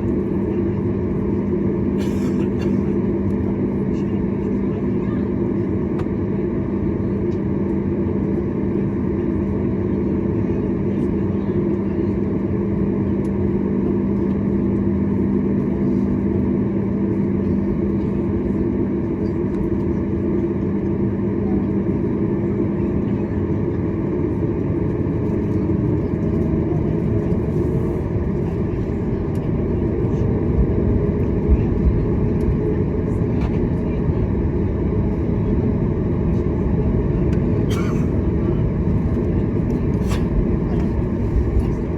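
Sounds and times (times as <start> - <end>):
engine and airflow drone: 0.0 - 41.9.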